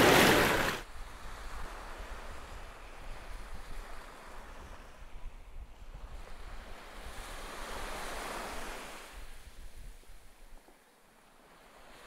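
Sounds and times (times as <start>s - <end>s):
surf washing on a beach: 0.0s - 10.4s
wind rumble on microphone: 0.0s - 10.7s.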